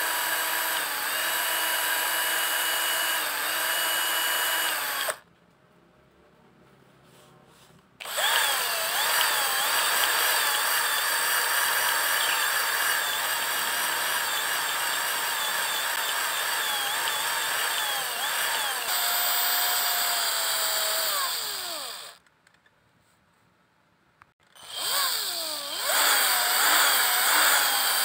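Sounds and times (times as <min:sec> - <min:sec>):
drill press drilling plastic pipe: 0:00.0 - 0:05.2, 0:08.0 - 0:22.2, 0:24.5 - 0:28.0.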